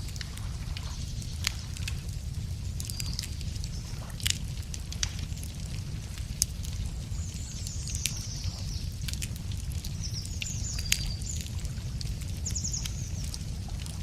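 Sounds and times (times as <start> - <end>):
campfire crackling and popping: 0.0 - 14.0
low rumble: 0.0 - 14.0
small birds singing: 0.1 - 4.3, 6.9 - 14.0.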